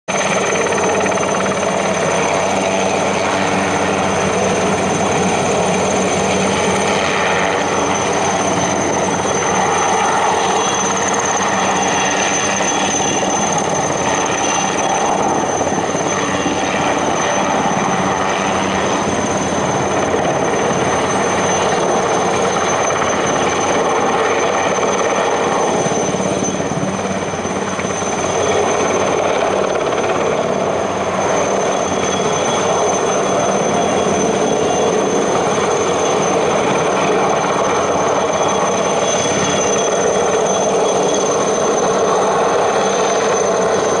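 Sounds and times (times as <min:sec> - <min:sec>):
helicopter rotor chop: 0:00.1 - 0:44.0
helicopter turbine whine: 0:00.1 - 0:44.0.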